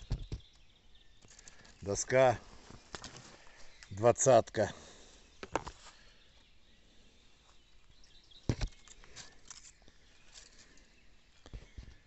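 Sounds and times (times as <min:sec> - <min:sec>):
quiet woodland ambience: 0:00.0 - 0:12.0.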